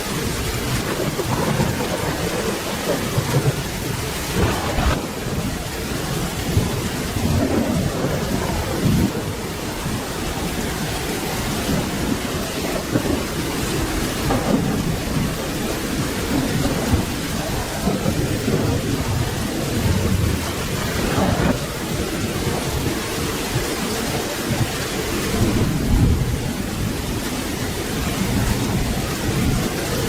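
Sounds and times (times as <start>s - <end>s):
low rumbling thunder: 0.0s - 30.0s
rain hissing: 0.0s - 30.0s.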